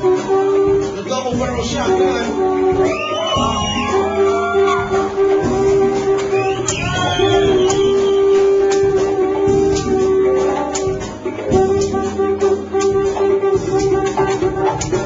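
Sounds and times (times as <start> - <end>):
live band playing: 0.0 - 15.0
conch shell blown: 2.4 - 15.0.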